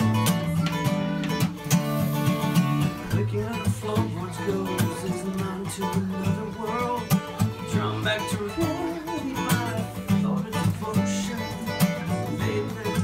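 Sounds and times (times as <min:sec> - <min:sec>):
acoustic guitar fingerstyle: 0:00.0 - 0:13.0.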